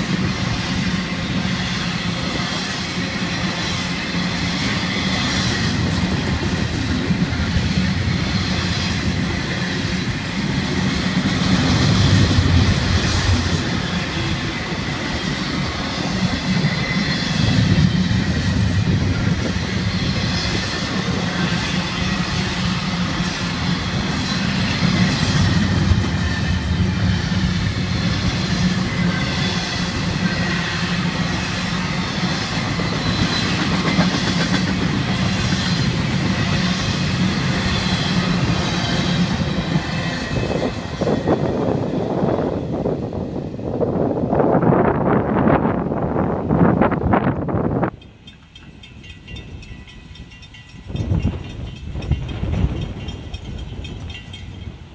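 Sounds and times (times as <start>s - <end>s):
steel wheels rumbling on rail: 0.0s - 54.9s.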